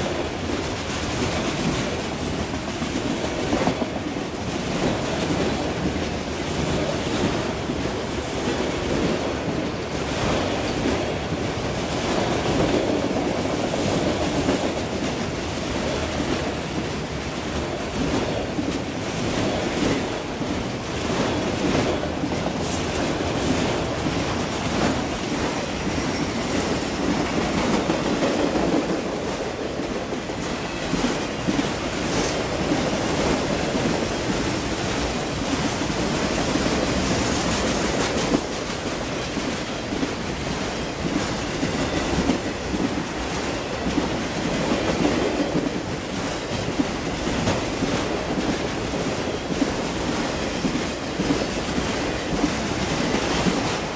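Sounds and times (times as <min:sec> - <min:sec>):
freight train wheels rumbling: 0:00.0 - 0:53.9
rhythmic clatter over rail joints: 0:00.0 - 0:53.9.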